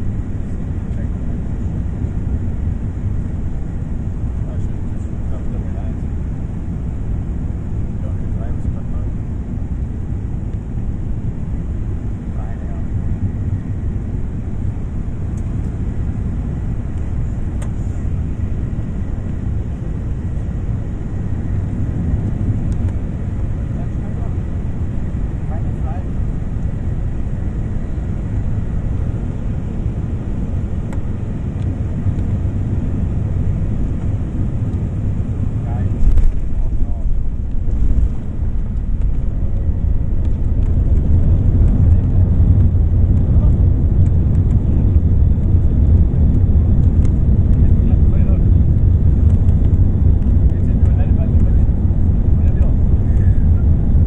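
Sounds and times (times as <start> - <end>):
airliner rumble: 0.0 - 54.0.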